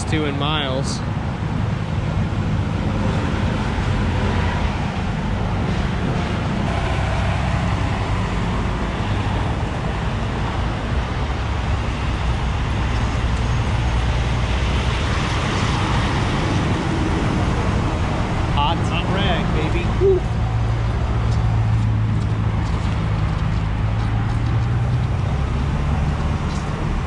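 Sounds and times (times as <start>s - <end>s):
highway traffic rumble: 0.0s - 27.0s.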